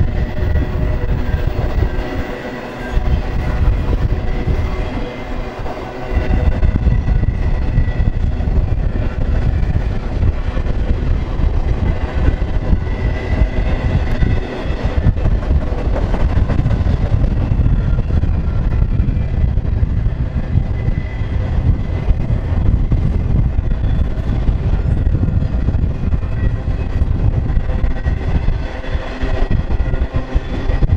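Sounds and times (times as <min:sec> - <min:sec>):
train wheels rumbling and rattling: 0:00.0 - 0:30.9.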